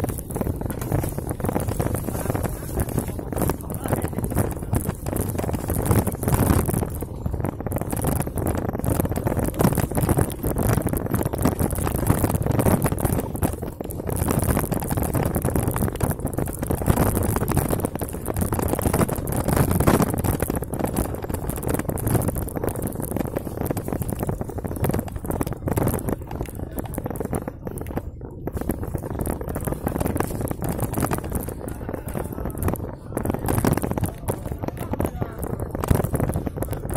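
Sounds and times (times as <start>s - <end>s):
mountain bike rattling on dirt trail: 0.0s - 33.0s
wind rushing over microphone: 0.0s - 36.9s.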